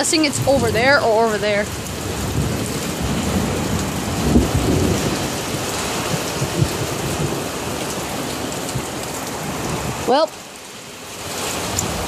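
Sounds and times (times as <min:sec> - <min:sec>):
thunder rumbling: 0:00.0 - 0:10.2
steady rain falling: 0:00.0 - 0:12.0.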